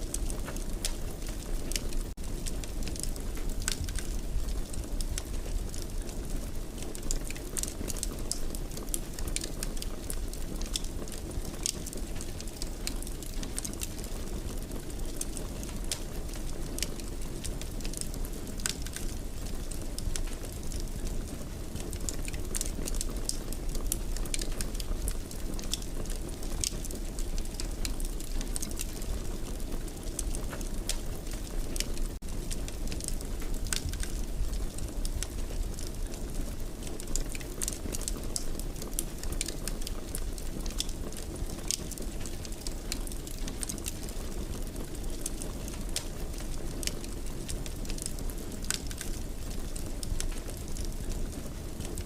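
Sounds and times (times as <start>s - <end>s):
fire crackling in a fireplace: 0.0s - 52.0s.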